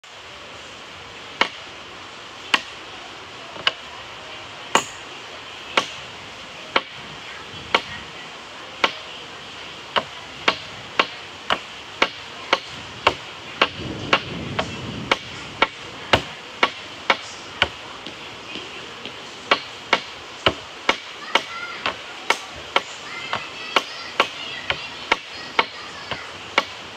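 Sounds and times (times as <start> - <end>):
steady background hiss: 0.0 - 26.9.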